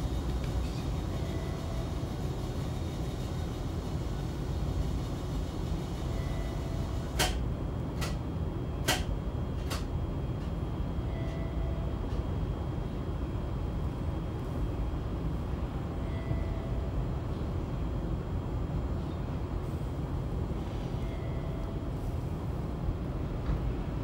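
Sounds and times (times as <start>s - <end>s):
tram interior rumble: 0.0s - 24.0s.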